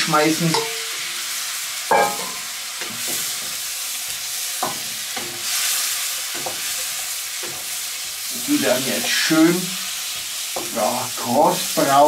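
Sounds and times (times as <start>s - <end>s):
dumplings sizzling in butter: 0.0s - 12.0s.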